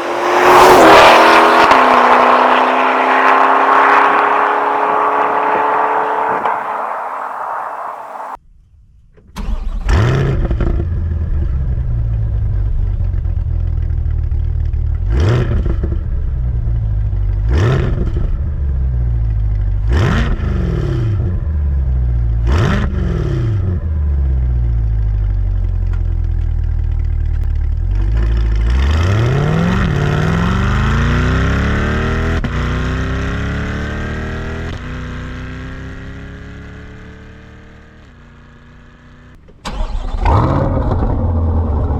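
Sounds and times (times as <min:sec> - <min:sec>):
car engine revving and idling: 0:00.0 - 0:08.4, 0:09.4 - 0:41.9.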